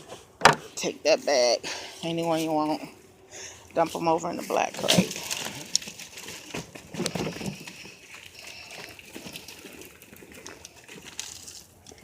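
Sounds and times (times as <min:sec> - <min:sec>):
soil rustling: 0:02.2 - 0:12.0.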